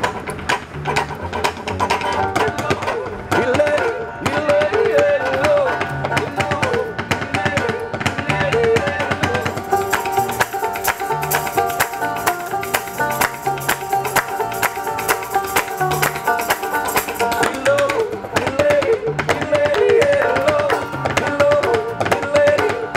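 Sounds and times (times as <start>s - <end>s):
clicking percussion beat: 0.0s - 22.8s
banjos picking: 0.0s - 22.9s
upright bass: 0.0s - 22.9s.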